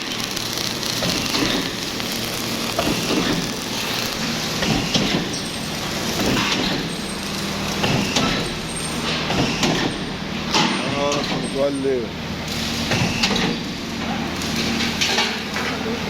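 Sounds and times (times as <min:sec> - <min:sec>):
arc welding crackling hiss: 0:00.0 - 0:16.0.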